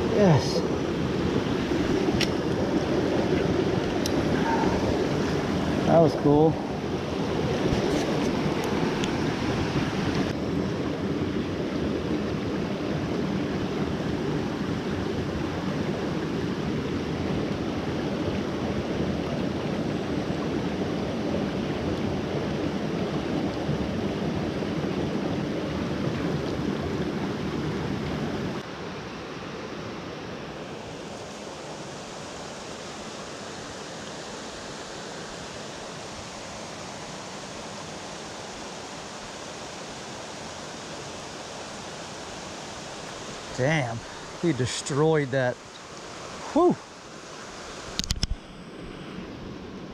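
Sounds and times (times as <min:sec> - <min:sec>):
creek water rushing: 0:00.0 - 0:49.9.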